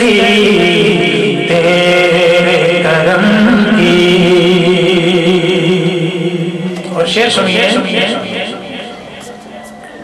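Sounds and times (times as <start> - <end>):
man singing into a microphone: 0.0 - 9.7.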